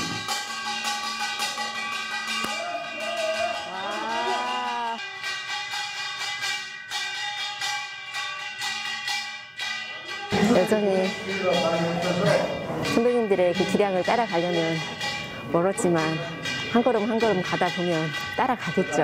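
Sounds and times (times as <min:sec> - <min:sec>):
small gongs clanging: 0:00.0 - 0:19.0.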